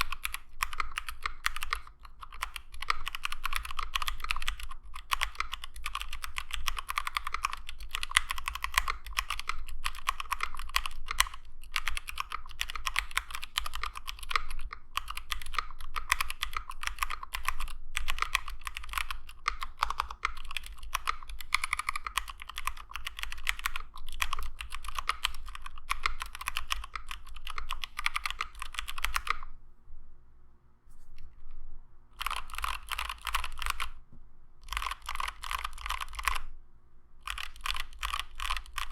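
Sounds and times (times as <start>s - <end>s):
mechanical keyboard typing: 0.0s - 29.5s, 32.2s - 34.0s, 34.6s - 36.5s, 37.2s - 38.9s.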